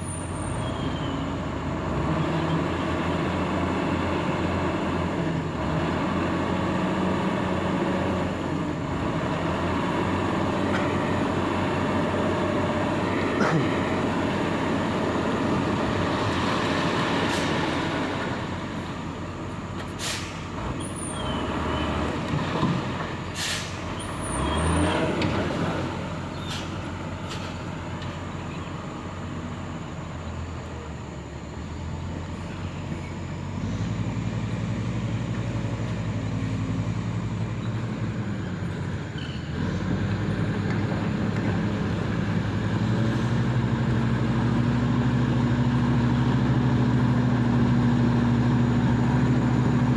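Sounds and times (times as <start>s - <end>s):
heavy diesel machinery running: 0.0s - 49.9s.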